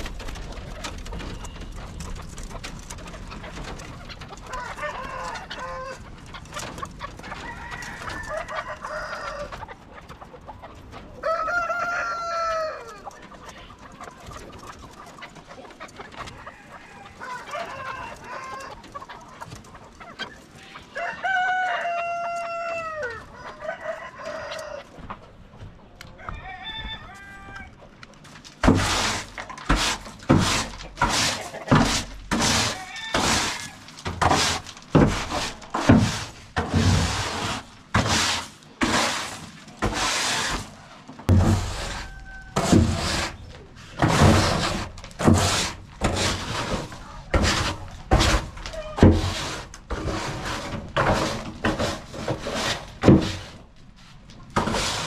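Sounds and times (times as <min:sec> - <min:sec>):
chicken calls: 0:00.0 - 0:55.0.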